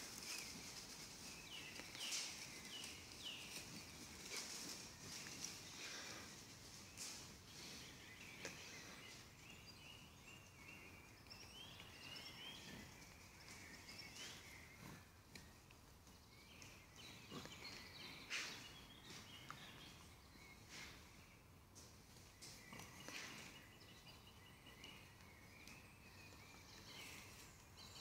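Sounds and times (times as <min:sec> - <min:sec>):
rustles: 0:00.0 - 0:28.0
small birds chirping: 0:00.0 - 0:28.0.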